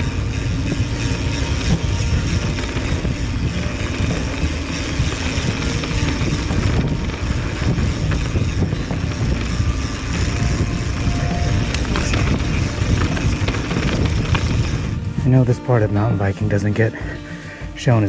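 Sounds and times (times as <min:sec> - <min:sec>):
mountain bike riding on dirt: 0:00.0 - 0:18.0
wind buffeting microphone: 0:00.0 - 0:18.0.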